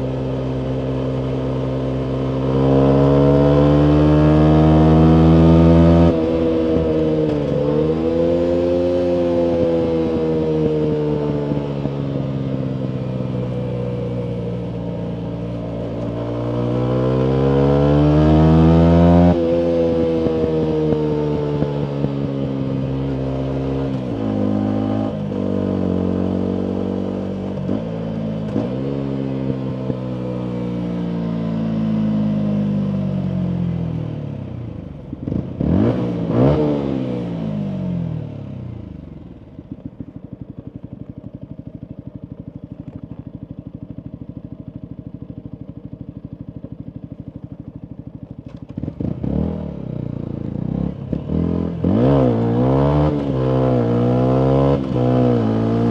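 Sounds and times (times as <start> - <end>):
motorcycle engine revving and idling: 0.0 - 55.9.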